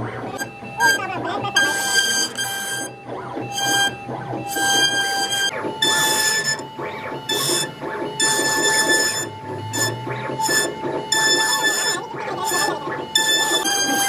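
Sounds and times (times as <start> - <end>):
louder cutting whine bursts: 0.0 - 14.0
router spindle whining: 0.0 - 14.0.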